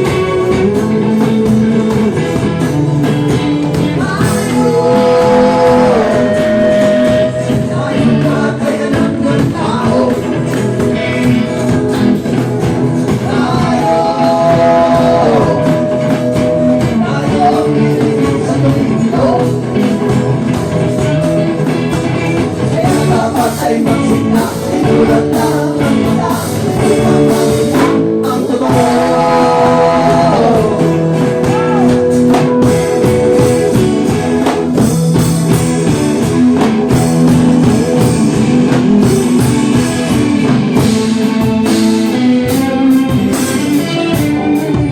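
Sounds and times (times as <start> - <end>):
person singing: 0.0 - 44.9
rock band guitar accompaniment: 0.0 - 44.9.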